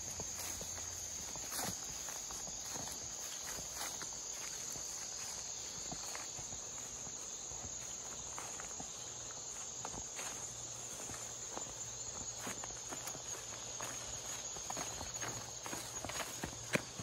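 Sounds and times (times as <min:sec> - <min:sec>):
footsteps through tall grass: 0:00.0 - 0:17.0
insects chorus: 0:00.0 - 0:17.0.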